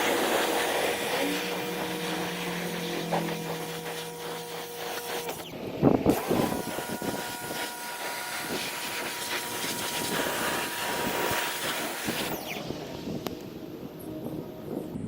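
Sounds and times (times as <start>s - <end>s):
water jet hissing: 0.0s - 14.0s
pressure washer whine: 0.0s - 15.0s.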